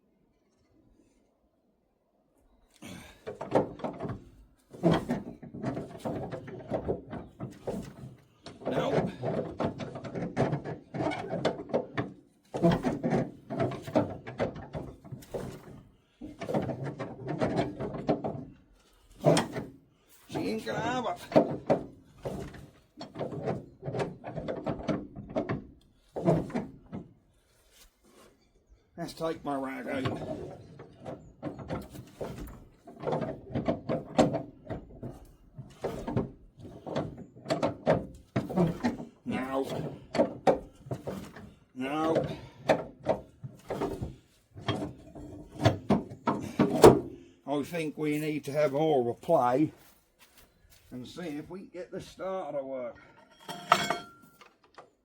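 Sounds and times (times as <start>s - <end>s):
clanking and rattling: 2.8s - 47.4s, 53.0s - 55.0s
tractor engine cranked by hand: 2.9s - 28.4s, 29.1s - 49.5s.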